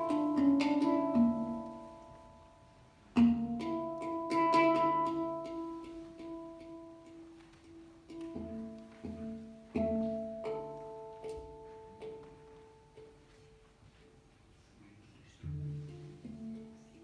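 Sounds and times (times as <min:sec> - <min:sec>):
handpan notes ringing: 0:00.0 - 0:14.2, 0:15.4 - 0:17.0.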